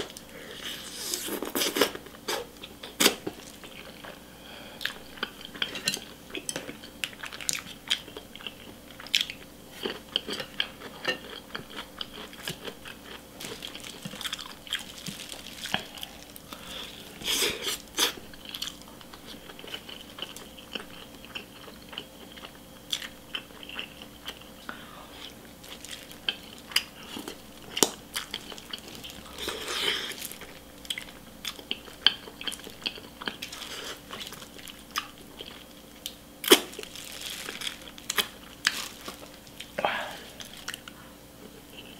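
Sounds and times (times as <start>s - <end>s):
close chewing and biting: 4.8s - 39.8s.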